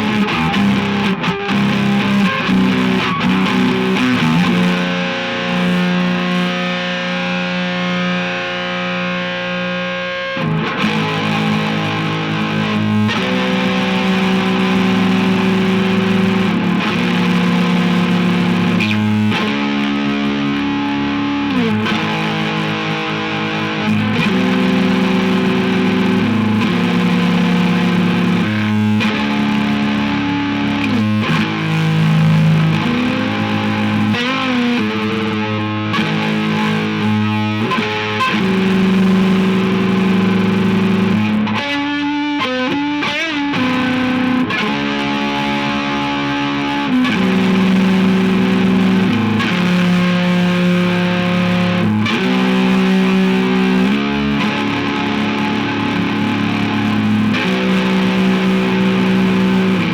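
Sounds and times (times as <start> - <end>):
distorted electric guitar chords: 0.0 - 59.9.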